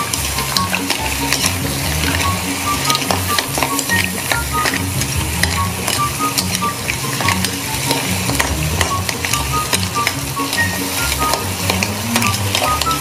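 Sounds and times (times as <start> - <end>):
metal spoon scraping a pan: 0.0 - 13.0
seafood sizzling in a pan: 0.0 - 13.0.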